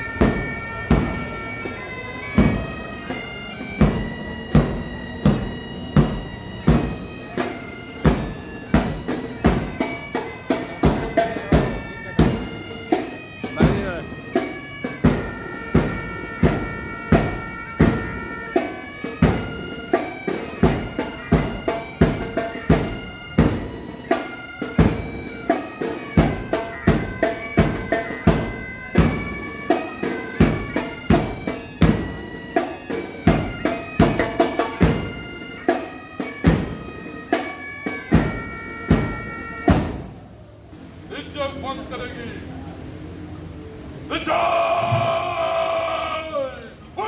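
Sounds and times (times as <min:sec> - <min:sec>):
bagpipes playing a tune: 0:00.0 - 0:40.2.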